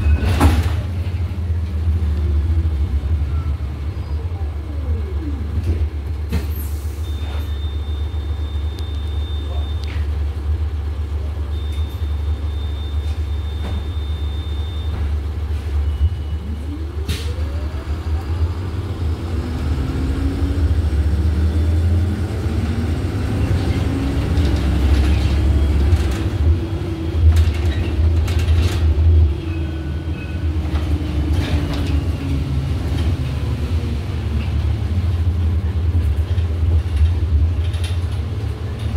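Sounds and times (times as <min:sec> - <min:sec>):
bus engine and road rumble: 0:00.0 - 0:38.9.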